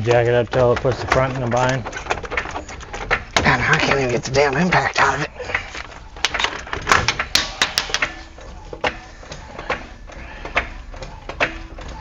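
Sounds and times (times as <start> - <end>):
hand tools clicking on metal: 0.0 - 12.0.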